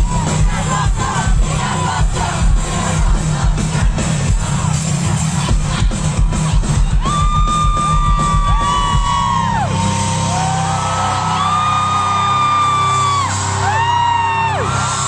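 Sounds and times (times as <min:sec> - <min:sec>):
fans screaming: 0:00.0 - 0:15.0
live concert music with heavy beat: 0:00.0 - 0:15.0.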